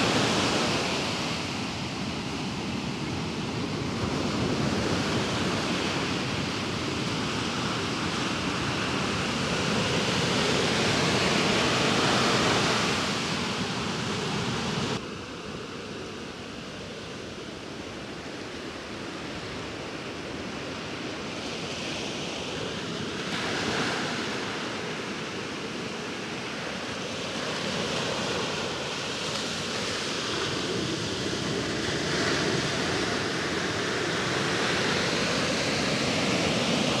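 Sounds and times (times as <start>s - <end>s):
ocean waves crashing: 0.0s - 15.0s, 19.1s - 37.0s.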